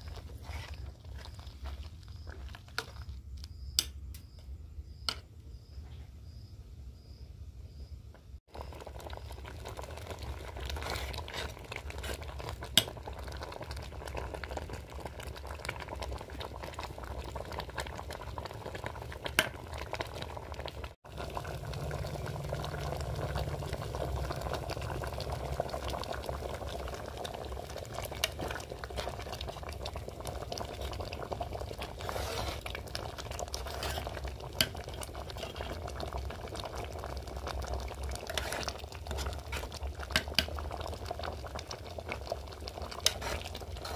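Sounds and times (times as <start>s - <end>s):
food bubbling in pot: 0.0s - 5.2s, 7.1s - 43.9s.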